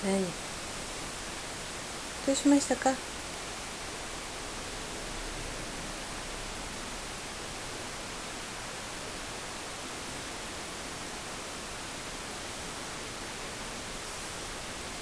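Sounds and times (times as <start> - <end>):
steady recording hiss: 0.0 - 15.0.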